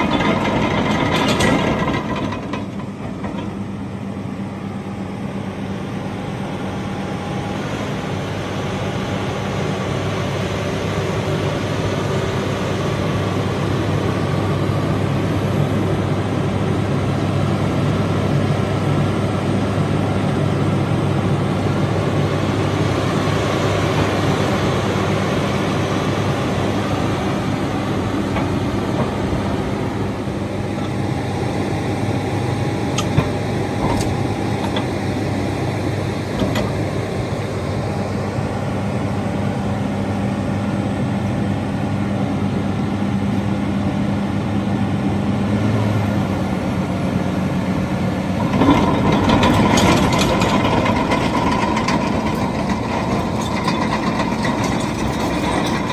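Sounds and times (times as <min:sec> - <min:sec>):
dozer driving with rough clatter: 0:00.0 - 0:04.3, 0:07.9 - 0:40.3, 0:45.5 - 0:55.9.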